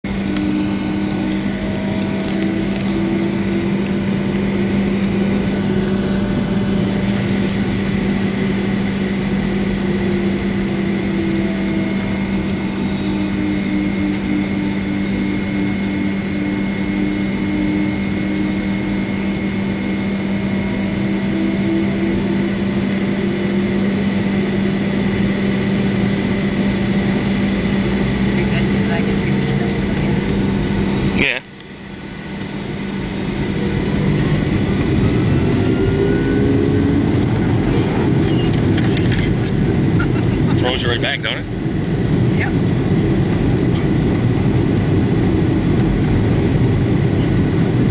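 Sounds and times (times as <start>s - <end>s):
jet engines droning: 0.0s - 47.9s.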